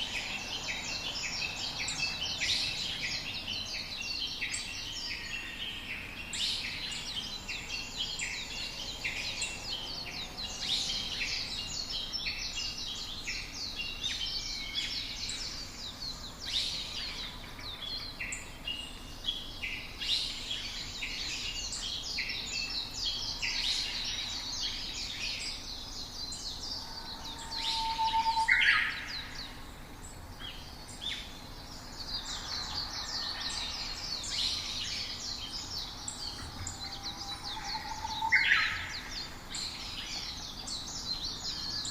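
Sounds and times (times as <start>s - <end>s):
songbirds chirping and singing: 0.0s - 41.9s.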